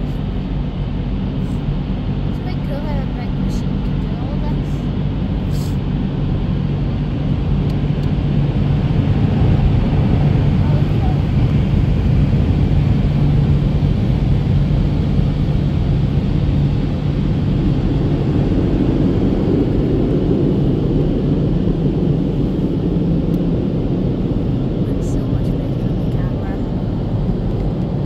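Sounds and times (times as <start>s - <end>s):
car wash machinery rumble: 0.0s - 28.0s
low hum: 0.0s - 28.0s.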